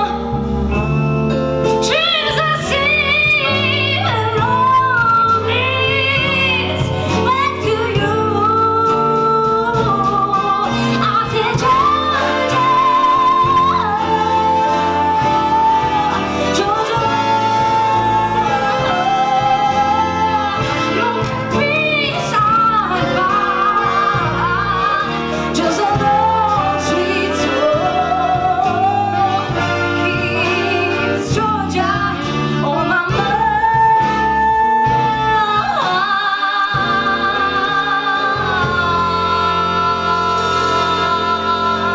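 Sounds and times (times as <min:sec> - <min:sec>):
band playing: 0:00.0 - 0:41.9
woman singing into microphone: 0:01.8 - 0:41.9.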